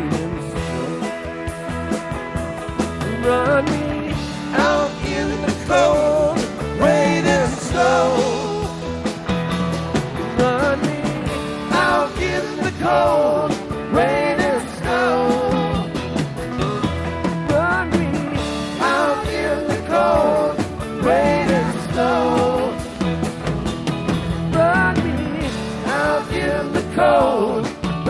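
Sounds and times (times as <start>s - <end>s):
electric guitar lead melody: 0.0s - 28.0s
rock band playing live: 0.0s - 28.0s.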